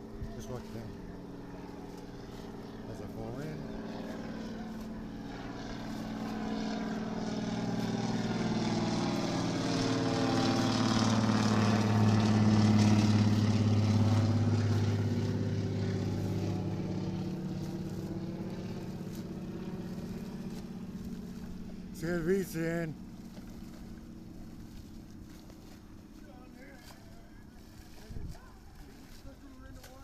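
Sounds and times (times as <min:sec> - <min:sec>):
engine of passing craft droning: 0:00.0 - 0:30.0.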